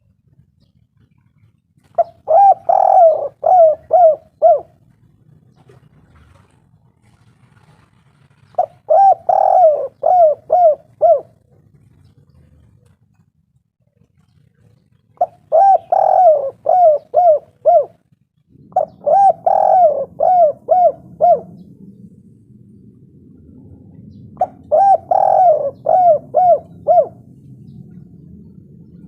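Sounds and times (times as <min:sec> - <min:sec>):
faint low hum: 0:00.0 - 0:29.0
dove cooing: 0:01.8 - 0:06.5, 0:08.4 - 0:13.0, 0:14.2 - 0:22.2, 0:22.8 - 0:29.0.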